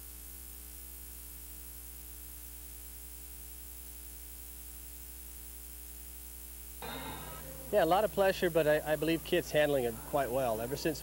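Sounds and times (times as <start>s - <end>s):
low electrical buzz with hiss: 0.0s - 11.0s.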